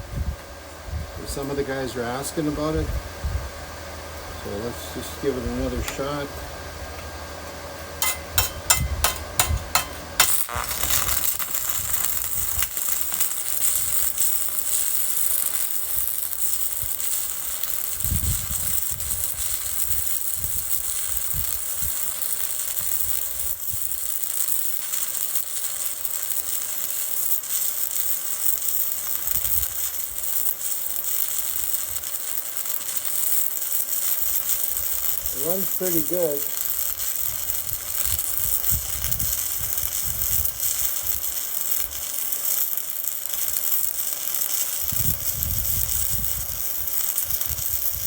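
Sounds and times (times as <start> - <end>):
welding arc sizzling crackle: 1.2 - 3.0, 3.6 - 48.0
welding rod striking cracks: 5.8 - 6.2, 8.0 - 48.0.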